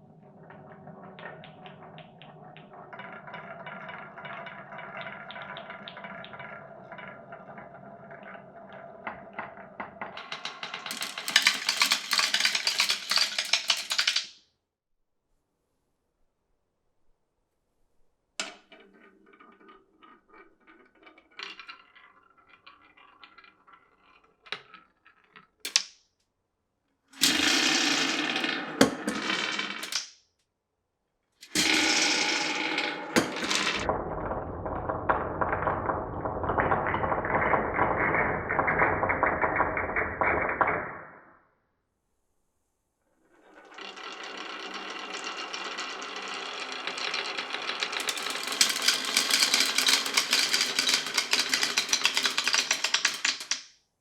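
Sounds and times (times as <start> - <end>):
marbles rolling and clattering: 0.0 - 14.4, 18.4 - 26.0, 27.2 - 30.1, 31.4 - 41.3, 43.3 - 53.8.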